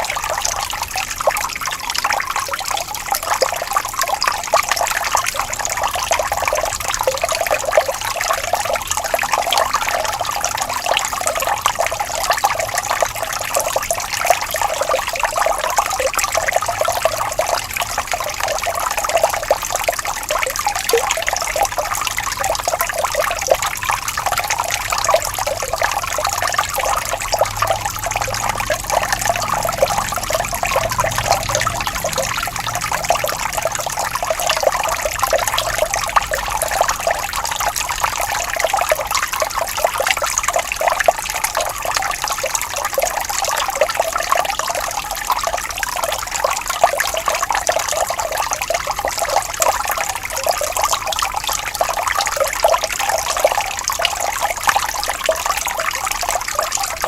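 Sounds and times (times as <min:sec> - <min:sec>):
water trickling and babbling: 0:00.0 - 0:57.0.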